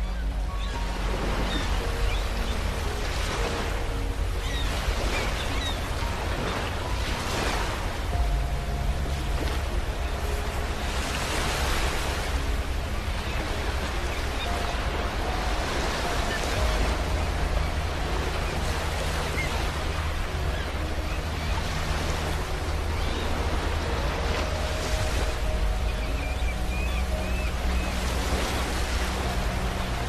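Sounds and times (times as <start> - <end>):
ocean waves on beach: 0.0 - 30.0.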